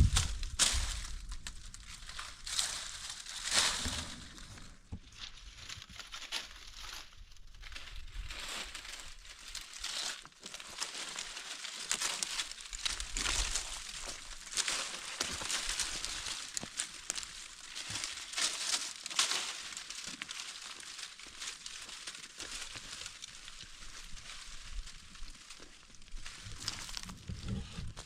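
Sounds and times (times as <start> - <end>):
material crinkling and rustling: 0.0 - 28.0.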